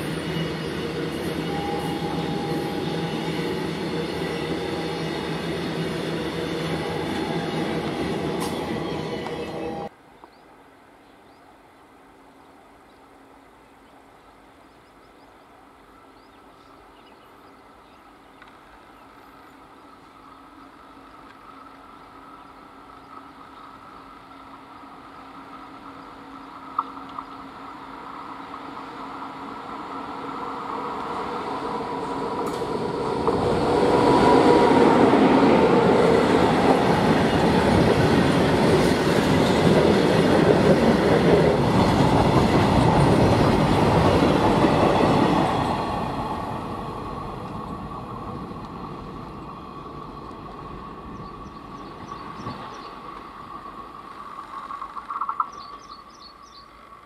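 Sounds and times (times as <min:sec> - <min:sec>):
electric locomotive approaching: 0:00.0 - 0:10.0, 0:14.8 - 0:57.0.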